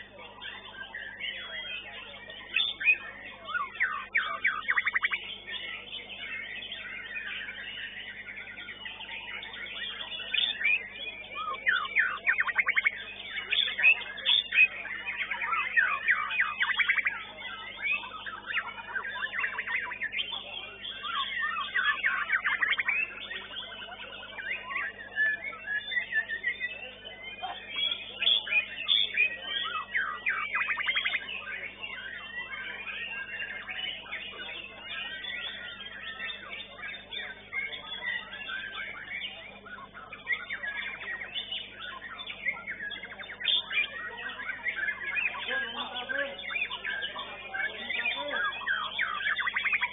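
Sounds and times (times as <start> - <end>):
bird singing whistles and trills: 0.0 - 49.9.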